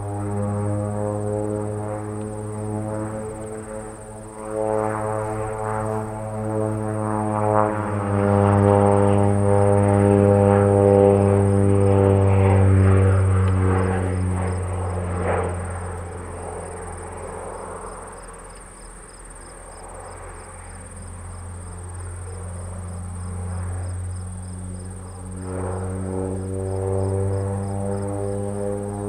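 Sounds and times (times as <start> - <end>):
airplane engine droning: 0.0 - 29.0
crickets chirping: 0.1 - 29.0.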